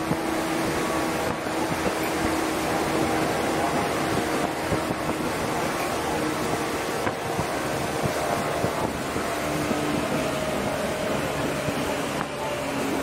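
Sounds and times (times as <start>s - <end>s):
traction motor hum: 0.0s - 13.0s
train wheels rumbling on rail: 0.0s - 13.0s.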